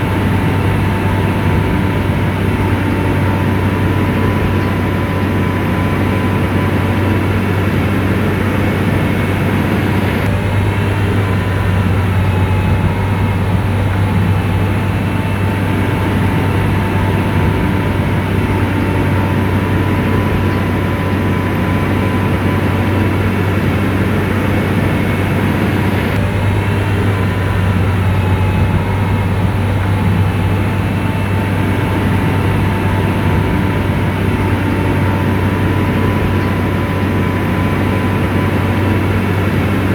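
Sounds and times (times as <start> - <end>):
bulldozer diesel engine humming: 0.0 - 39.9
thin steady whine: 0.0 - 39.9.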